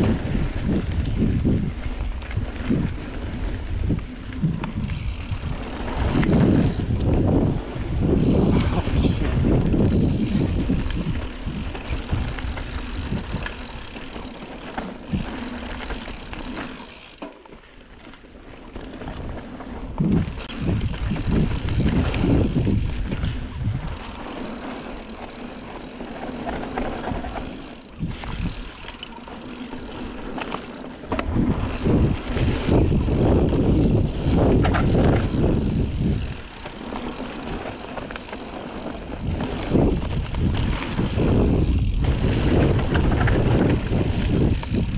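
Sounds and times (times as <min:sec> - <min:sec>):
wind buffeting microphone: 0:00.0 - 0:17.1, 0:19.1 - 0:44.9
bike knocking and rattling: 0:00.0 - 0:44.9
tyres rolling over dirt: 0:00.0 - 0:44.9.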